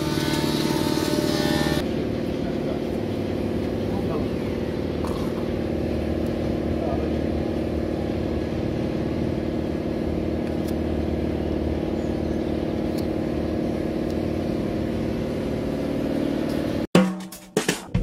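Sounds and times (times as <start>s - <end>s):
engine running steadily: 0.0s - 16.9s.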